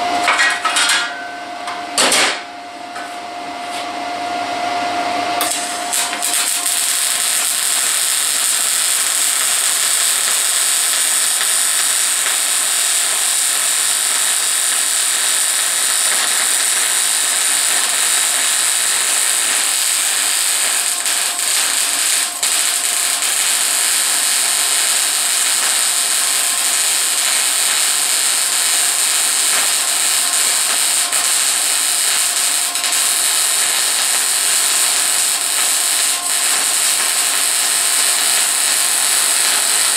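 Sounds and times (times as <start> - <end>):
arc welder hissing: 5.4 - 39.9.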